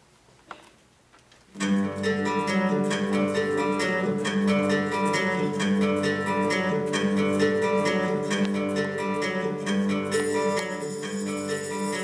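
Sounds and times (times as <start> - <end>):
plucked string music: 1.6 - 12.0.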